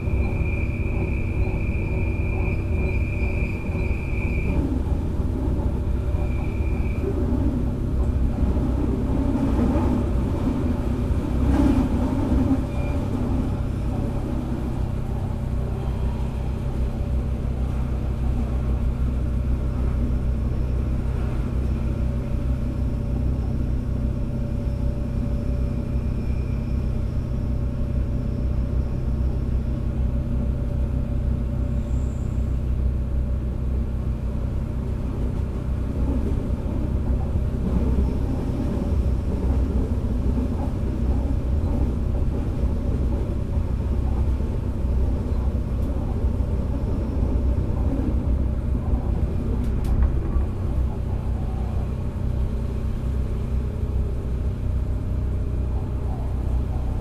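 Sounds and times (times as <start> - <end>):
diesel engine rumble: 0.0 - 57.0
train wheels on track: 0.0 - 57.0.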